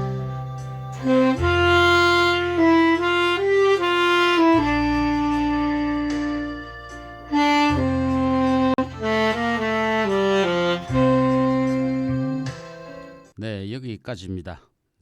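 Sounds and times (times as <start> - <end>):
backing track with low bass: 0.0 - 13.3
tenor saxophone ballad melody: 0.0 - 13.3.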